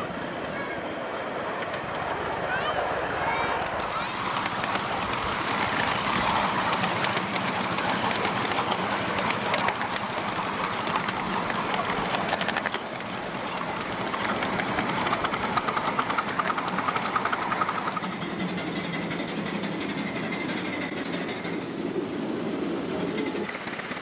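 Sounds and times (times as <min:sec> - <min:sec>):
miniature steam locomotive running: 0:00.0 - 0:24.0.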